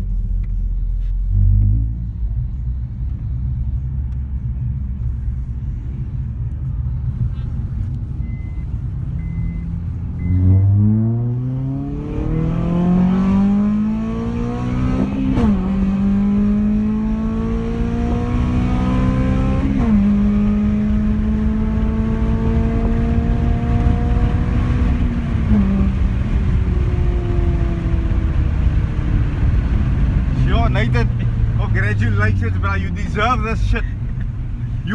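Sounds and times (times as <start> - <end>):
car engine accelerating hard: 0.0 - 34.9.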